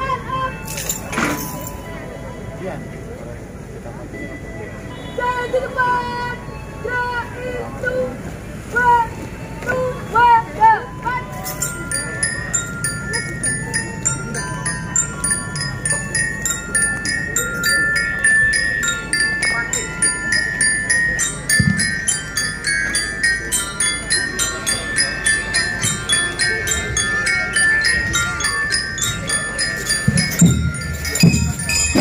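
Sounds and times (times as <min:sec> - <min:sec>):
bell lyres melody: 0:00.0 - 0:07.7, 0:08.9 - 0:32.0.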